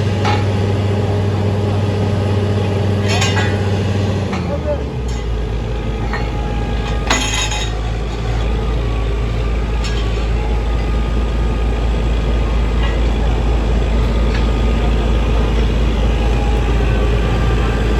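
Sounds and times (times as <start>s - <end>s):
heavy engine rumbling: 0.0s - 17.9s.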